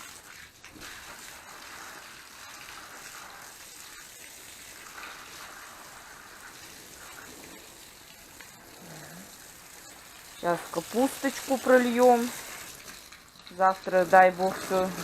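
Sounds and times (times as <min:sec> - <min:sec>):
water pouring onto soil: 0:00.0 - 0:15.0.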